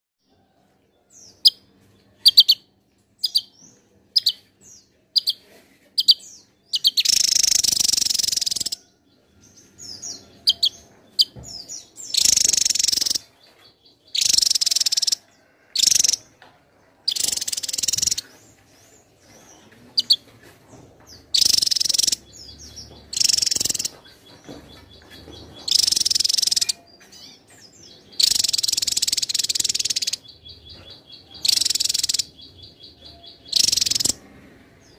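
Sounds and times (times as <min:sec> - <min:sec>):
bird song phrases: 0:00.2 - 0:34.9.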